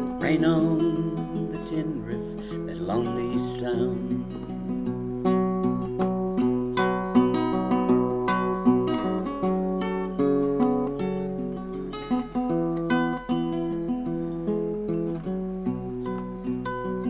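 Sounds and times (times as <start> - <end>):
plucked acoustic guitar: 0.0 - 17.0.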